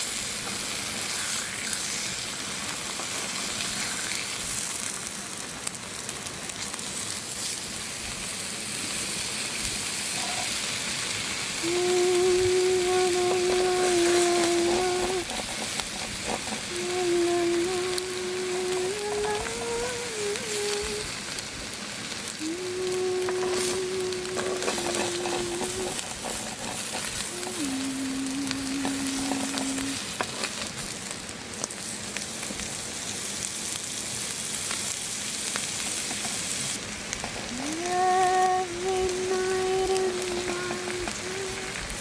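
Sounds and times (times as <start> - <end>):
food sizzling on hot stone: 0.0 - 42.0.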